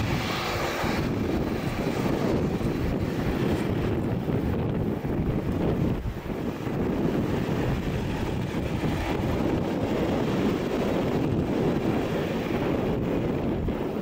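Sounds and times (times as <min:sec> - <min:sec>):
jet engines running: 0:00.0 - 0:14.0
wind on microphone: 0:00.0 - 0:14.0.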